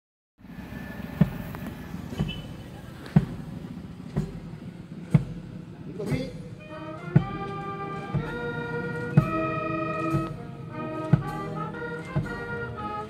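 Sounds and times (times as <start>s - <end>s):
bass drum beating slowly: 1.1s - 12.8s.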